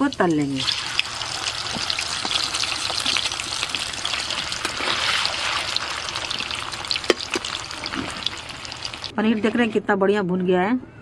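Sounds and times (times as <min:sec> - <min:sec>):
cheese frying in hot oil: 0:00.0 - 0:09.1.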